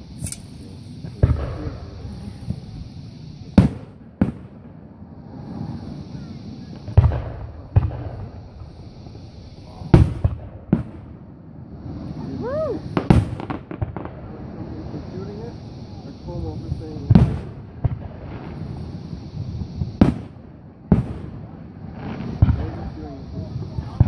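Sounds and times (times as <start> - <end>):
fireworks booming: 0.0 - 24.0.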